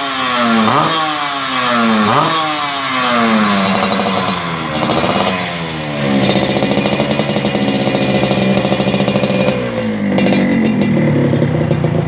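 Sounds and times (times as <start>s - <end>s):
two-stroke motorcycle engine revving: 0.0s - 12.0s.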